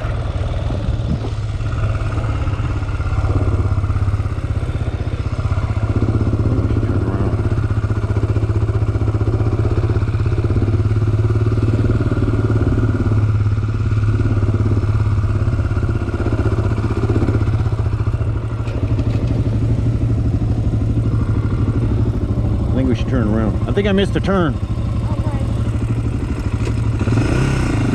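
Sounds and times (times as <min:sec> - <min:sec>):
quad engine running: 0:00.0 - 0:27.9.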